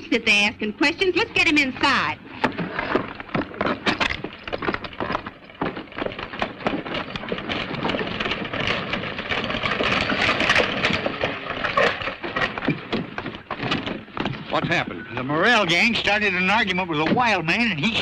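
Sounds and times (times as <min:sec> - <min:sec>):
horse hoofbeats clattering: 0:00.0 - 0:18.0
wheels rattling: 0:00.0 - 0:18.0.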